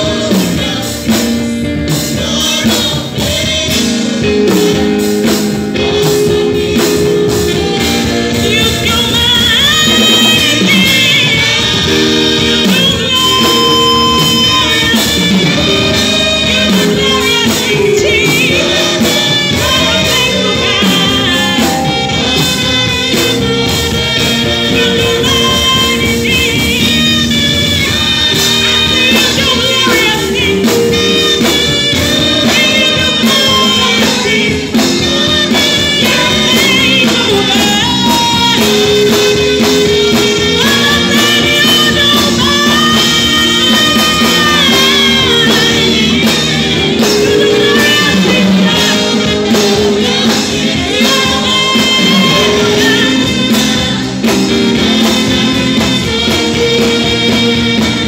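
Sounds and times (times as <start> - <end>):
choir and singer singing gospel: 0.0 - 58.0
live band with drums: 0.0 - 58.0.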